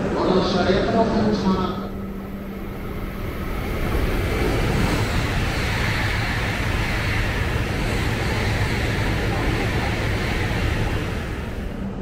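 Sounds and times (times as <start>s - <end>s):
high-speed train rushing: 0.0s - 12.0s.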